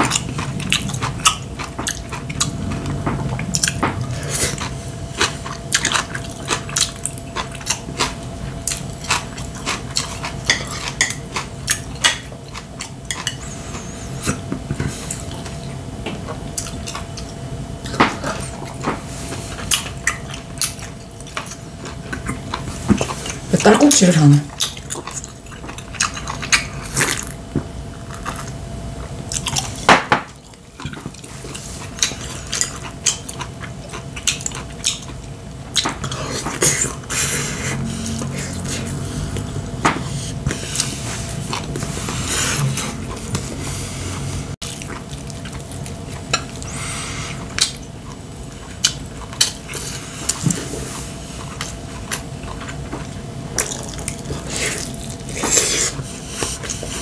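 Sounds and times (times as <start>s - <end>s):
man chewing with lip smacks: 0.0s - 23.4s, 24.5s - 27.4s, 28.0s - 43.6s, 44.6s - 57.0s
faint steady hum: 0.0s - 57.0s.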